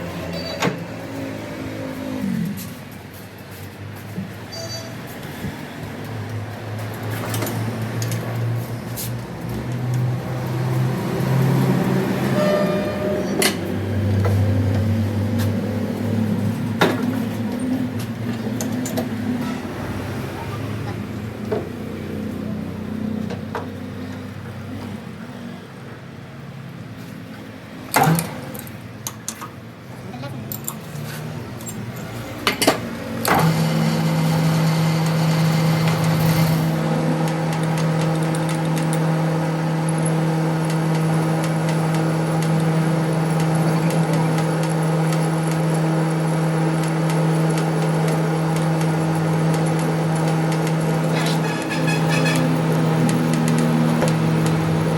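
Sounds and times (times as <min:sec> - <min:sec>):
workshop machine humming: 0:00.0 - 0:26.8, 0:30.8 - 0:54.9.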